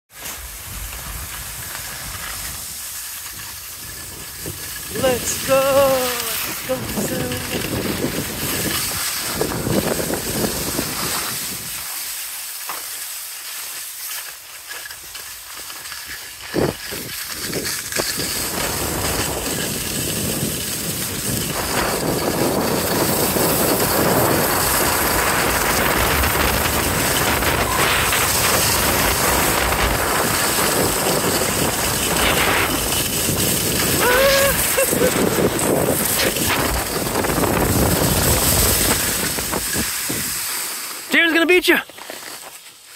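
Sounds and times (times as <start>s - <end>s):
skis scraping on snow: 0.1s - 42.9s.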